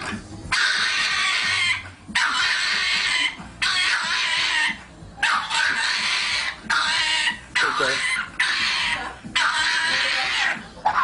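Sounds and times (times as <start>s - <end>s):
dog raspy squealing cries: 0.5s - 11.0s.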